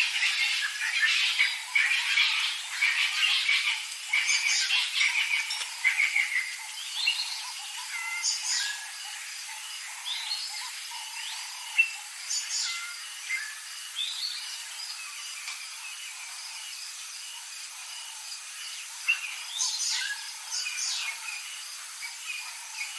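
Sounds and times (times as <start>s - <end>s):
birds chirping and whistling: 0.0s - 16.0s, 18.4s - 22.9s
faint steady hiss: 0.0s - 22.9s.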